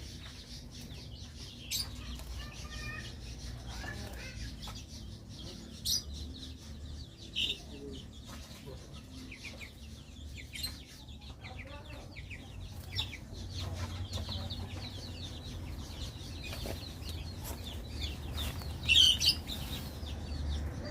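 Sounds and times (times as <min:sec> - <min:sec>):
small bird chirping: 0:00.0 - 0:20.9.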